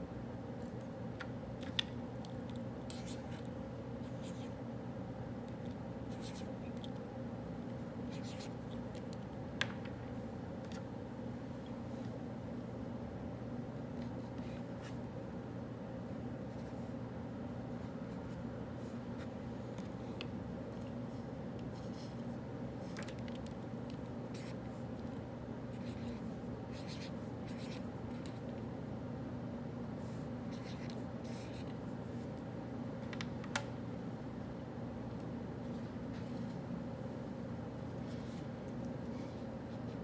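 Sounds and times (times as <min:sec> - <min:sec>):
low room hum: 0:00.0 - 0:40.0.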